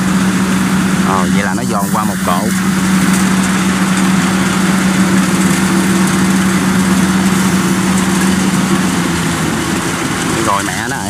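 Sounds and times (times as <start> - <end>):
combine harvester engine droning: 0.0 - 11.0.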